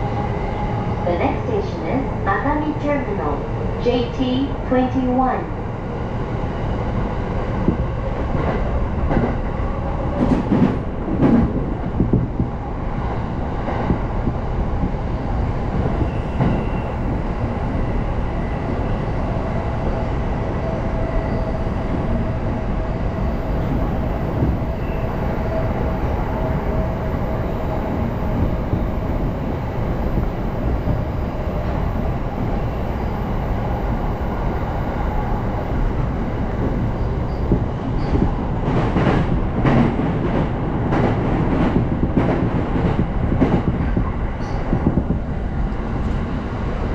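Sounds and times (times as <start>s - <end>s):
train wheels rumbling on track: 5.5s - 46.9s.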